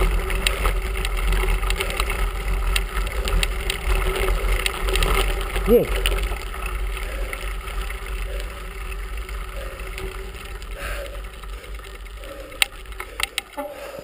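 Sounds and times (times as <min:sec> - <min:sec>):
bicycle tyres rumbling on gravel: 0:00.0 - 0:14.0.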